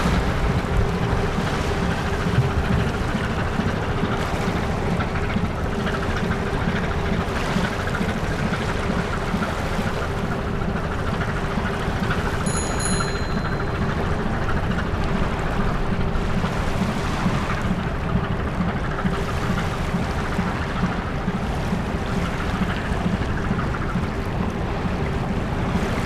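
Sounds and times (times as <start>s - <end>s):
low engine drone: 0.0s - 26.0s
moving water: 0.0s - 26.0s
wind: 0.0s - 26.0s.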